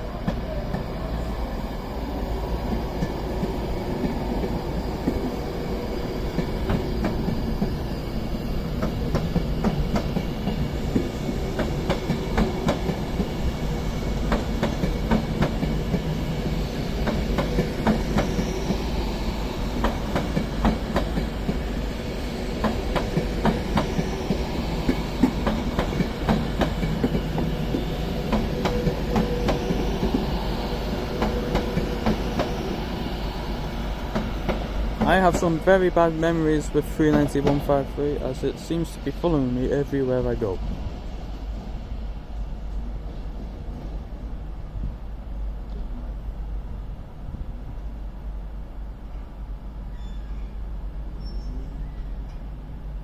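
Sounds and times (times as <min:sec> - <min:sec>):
electric train rumbling: 0:00.0 - 0:53.0.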